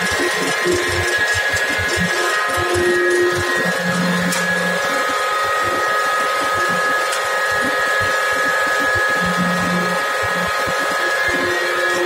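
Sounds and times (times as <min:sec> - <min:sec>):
grinding machine whirring: 0:00.0 - 0:12.0.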